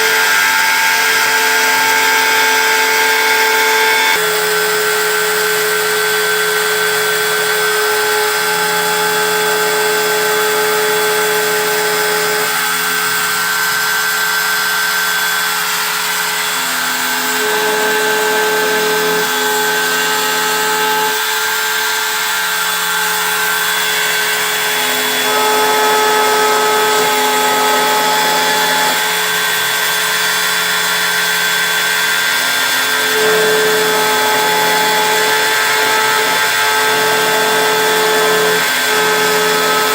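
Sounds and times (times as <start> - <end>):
engraving machine cutting: 0.0 - 39.9.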